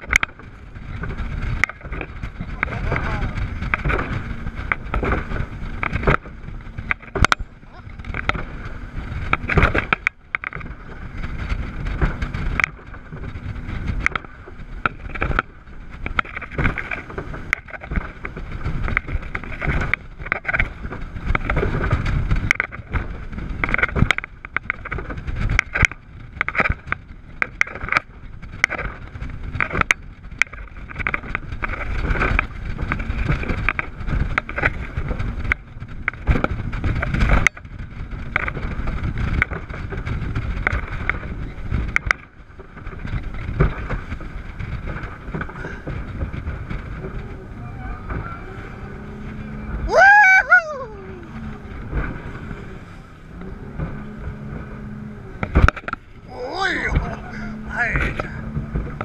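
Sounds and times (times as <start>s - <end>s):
hull thudding on waves: 0.0s - 59.0s
outboard motors droning: 0.0s - 59.0s
wind noise: 0.0s - 59.0s.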